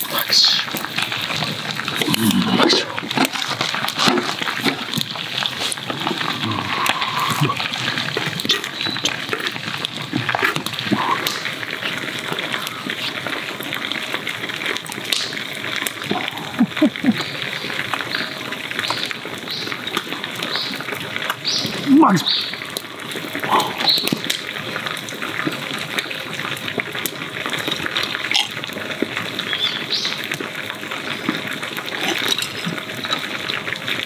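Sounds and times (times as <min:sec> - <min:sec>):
oil sizzling and crackling: 0:00.0 - 0:34.0.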